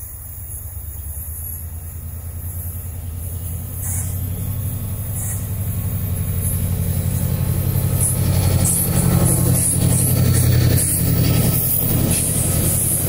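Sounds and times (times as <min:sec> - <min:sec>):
diesel locomotive engine pulsing: 0:00.0 - 0:13.0.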